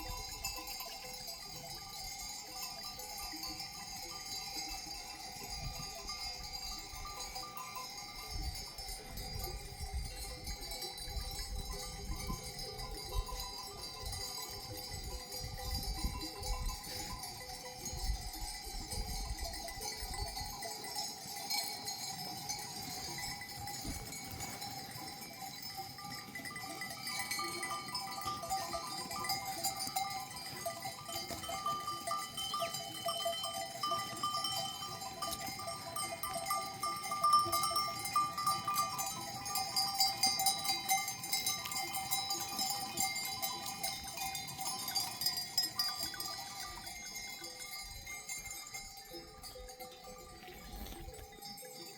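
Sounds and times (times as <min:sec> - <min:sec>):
sheep bells clinking: 0:00.0 - 0:51.9.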